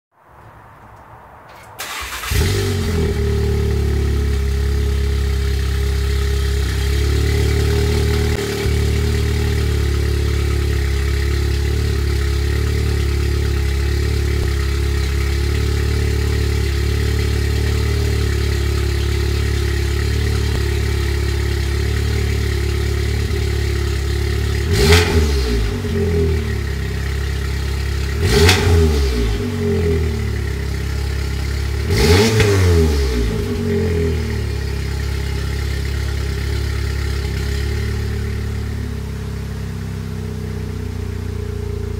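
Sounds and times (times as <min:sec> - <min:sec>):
car engine idling and revving: 0:00.3 - 0:41.9.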